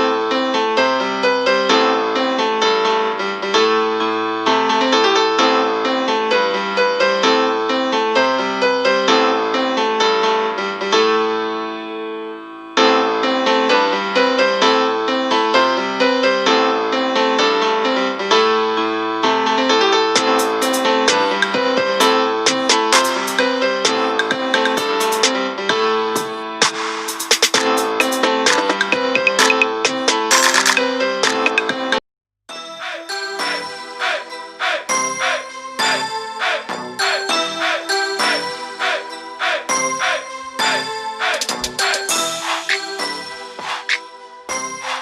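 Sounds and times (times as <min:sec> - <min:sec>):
piano background music: 0:00.0 - 0:45.0.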